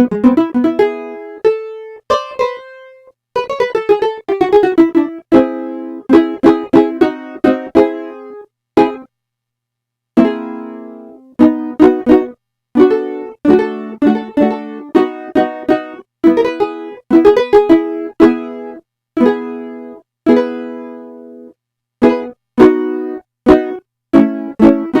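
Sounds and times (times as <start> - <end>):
synthesizer plucked-string notes: 0.0 - 9.1, 10.2 - 25.0.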